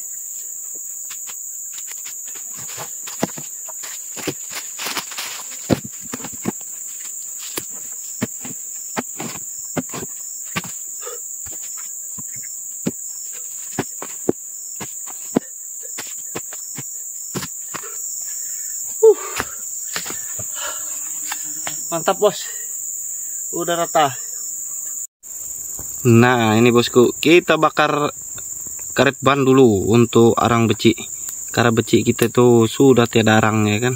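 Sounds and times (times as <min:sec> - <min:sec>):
high-pitched insect drone: 0:00.0 - 0:33.9.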